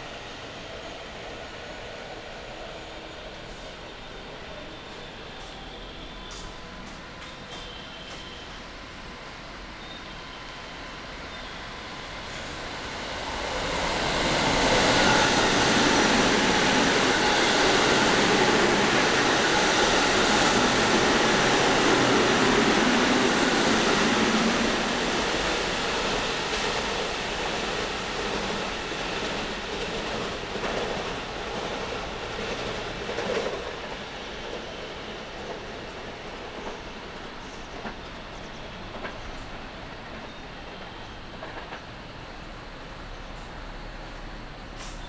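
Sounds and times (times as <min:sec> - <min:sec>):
electric train passing at speed: 0:00.0 - 0:45.0.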